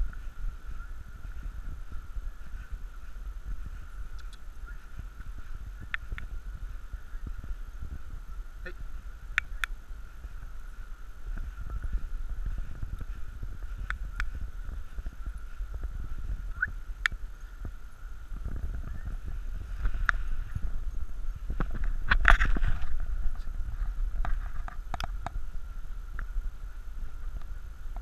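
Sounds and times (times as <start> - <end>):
footsteps on dirt trail: 0.0 - 28.0.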